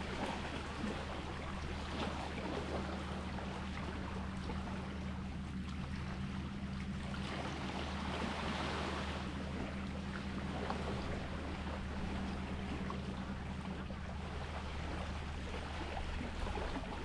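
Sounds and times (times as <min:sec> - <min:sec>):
sea waves lapping: 0:00.0 - 0:17.0
steady low hum: 0:00.0 - 0:17.0.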